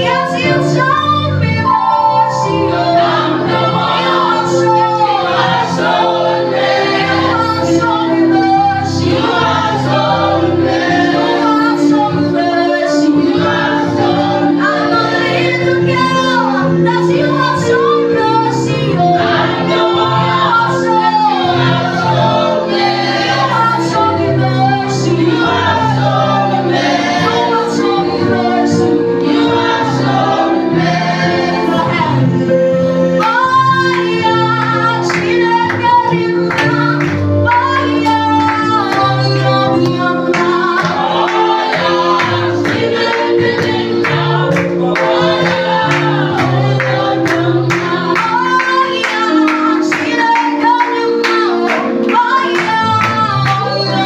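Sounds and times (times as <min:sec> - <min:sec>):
gospel group singing with band: 0:00.0 - 0:54.0.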